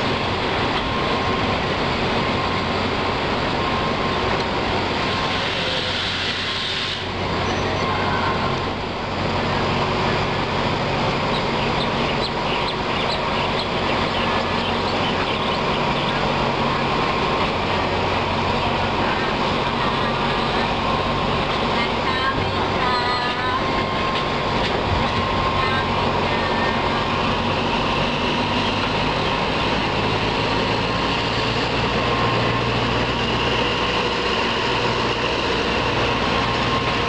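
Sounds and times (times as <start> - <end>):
train engine hum: 0.0 - 37.0
rolling wheel noise: 6.9 - 37.0.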